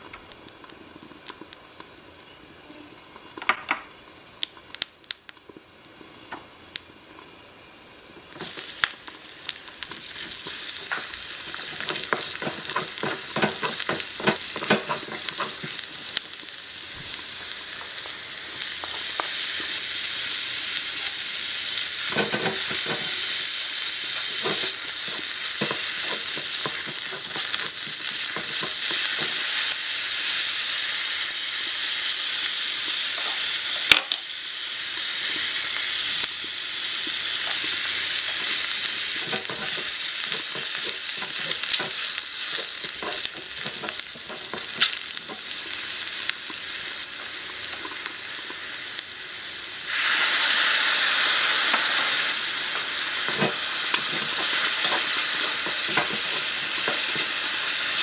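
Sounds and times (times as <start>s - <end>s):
mushrooms sizzling in a wok: 0.0s - 58.0s.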